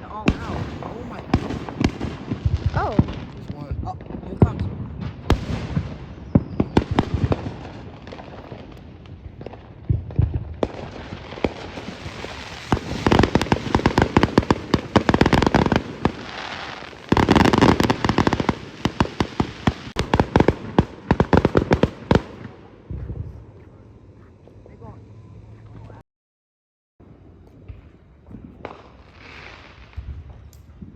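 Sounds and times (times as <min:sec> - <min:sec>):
fireworks popping and crackling: 0:00.0 - 0:23.8, 0:27.4 - 0:30.9.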